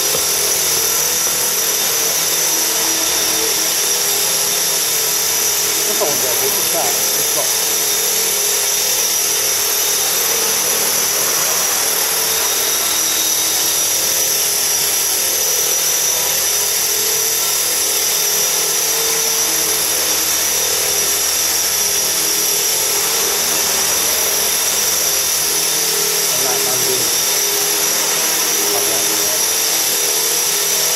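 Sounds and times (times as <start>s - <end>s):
radio-controlled helicopter whine: 0.0s - 30.9s.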